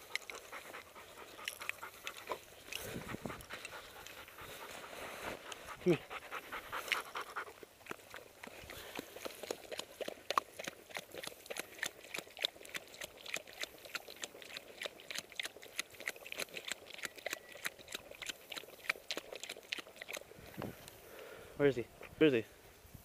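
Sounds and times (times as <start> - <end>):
dog licking and chewing: 0.0 - 21.0.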